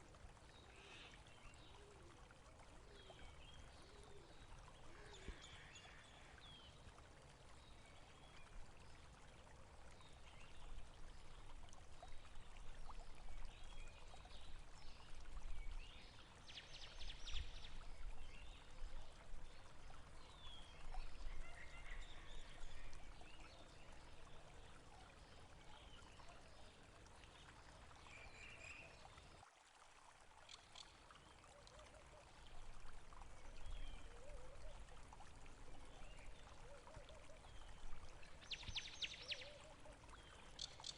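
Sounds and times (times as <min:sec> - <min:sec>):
water running and trickling: 0:00.0 - 0:40.9.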